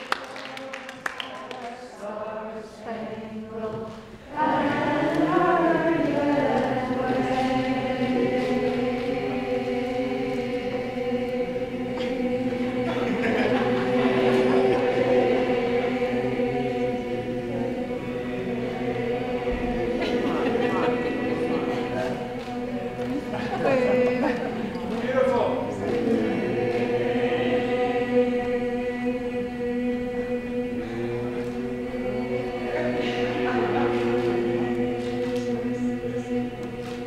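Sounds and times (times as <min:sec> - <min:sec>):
choir singing long notes: 0:00.0 - 0:37.0.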